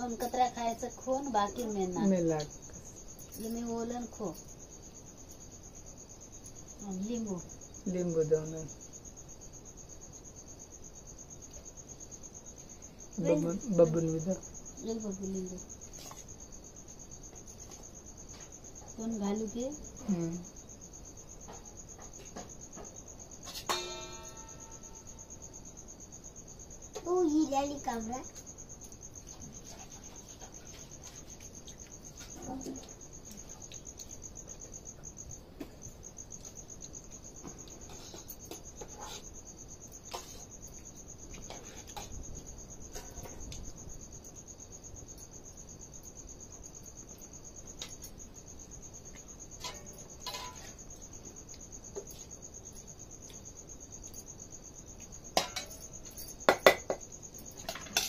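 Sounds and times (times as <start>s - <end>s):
cricket trilling: 0.0s - 58.0s.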